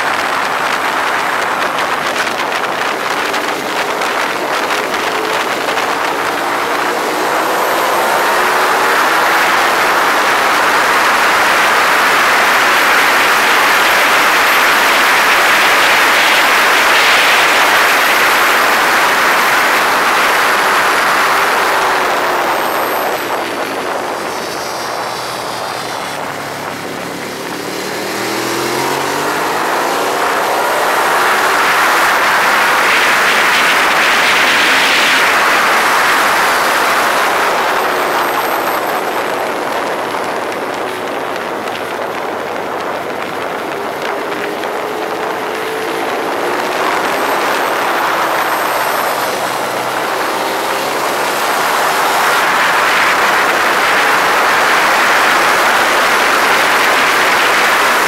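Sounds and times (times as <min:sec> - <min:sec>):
loud rushing noise: 0:00.0 - 0:58.0
motorcycle engine at speed: 0:00.0 - 0:58.0.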